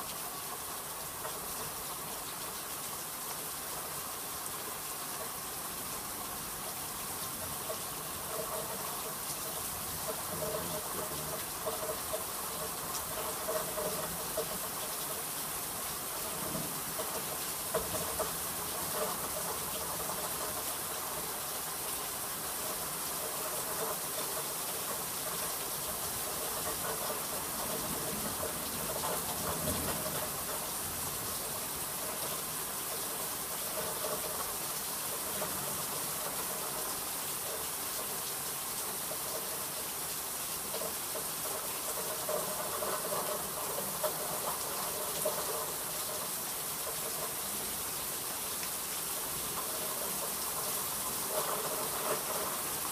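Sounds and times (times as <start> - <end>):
sharp rain taps: 0.0 - 52.9
steady rain hissing: 0.0 - 52.9.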